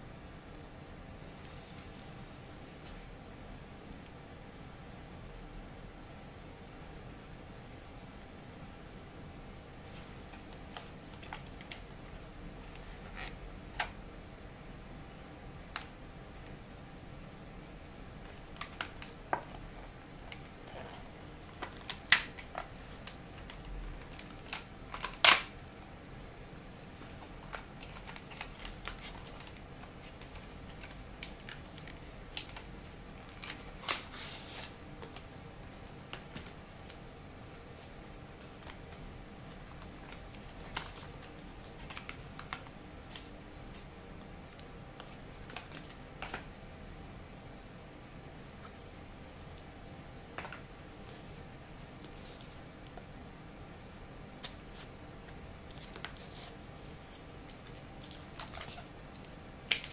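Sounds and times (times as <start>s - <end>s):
low steady hiss: 0.0s - 59.9s.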